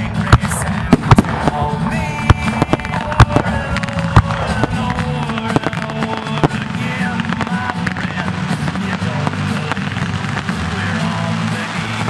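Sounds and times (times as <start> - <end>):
firework bangs: 0.0 - 12.0
firework crackling: 0.0 - 12.0
song playing: 0.0 - 12.0.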